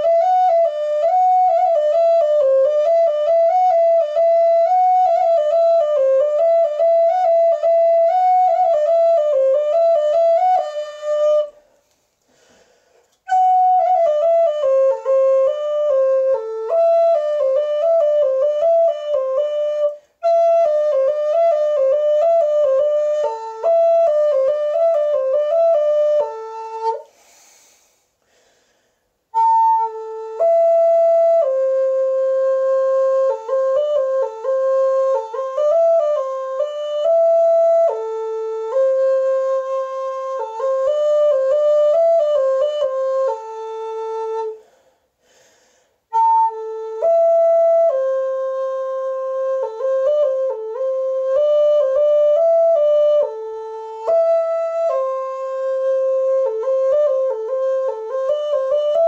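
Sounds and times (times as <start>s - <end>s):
flute-like melody: 0.0s - 11.8s, 13.1s - 27.1s, 29.3s - 44.8s, 46.0s - 59.0s.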